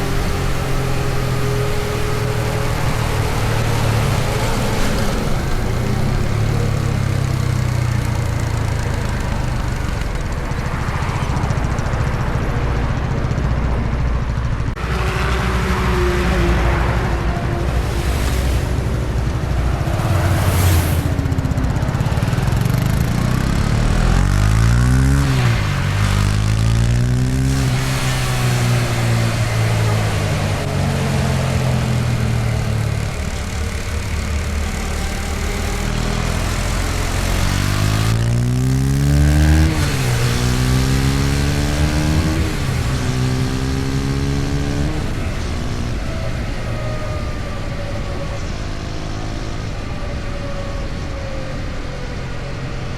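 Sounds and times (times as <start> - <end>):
motorcycle engine revving through gears: 0.0 - 52.6
wind and road noise: 0.0 - 52.9.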